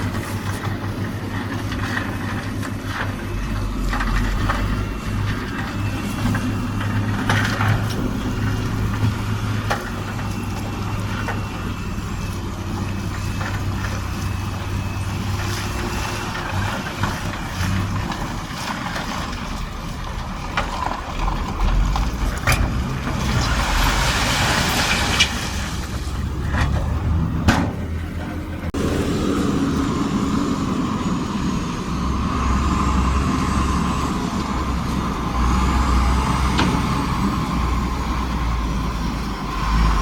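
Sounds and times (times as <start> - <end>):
heavy machinery diesel engine: 0.0 - 40.0.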